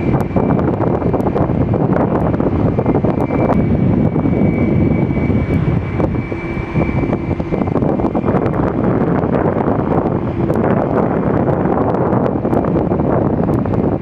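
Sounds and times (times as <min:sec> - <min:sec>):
engine rumble: 0:00.0 - 0:14.0
jet engines whining: 0:00.0 - 0:14.0.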